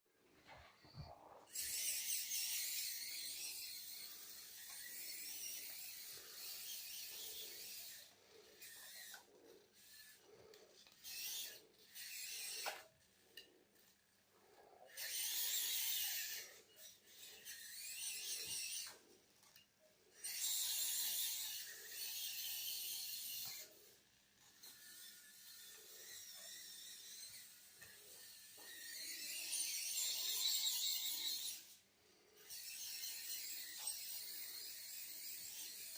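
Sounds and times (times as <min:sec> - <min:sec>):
small gear motor whine: 0:00.5 - 0:35.9.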